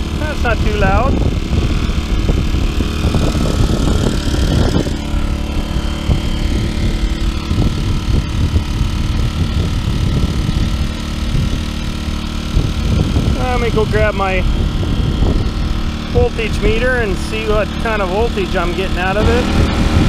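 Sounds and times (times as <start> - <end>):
inverter generator running: 0.0 - 20.0.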